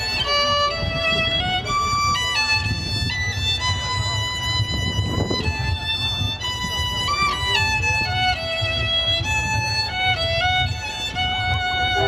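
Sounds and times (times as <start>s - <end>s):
amplified violin melody: 0.0s - 12.0s
low pulsing backing: 0.0s - 12.0s.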